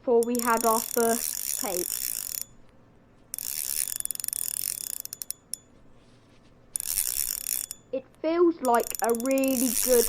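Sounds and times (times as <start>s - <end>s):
fishing reel ticking: 0.0s - 6.0s, 6.6s - 10.0s.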